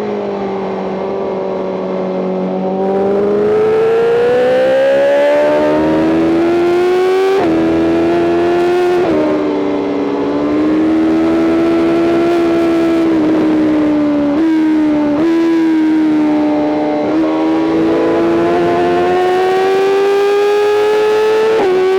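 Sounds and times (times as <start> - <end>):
motorcycle engine accelerating hard: 0.0 - 21.9.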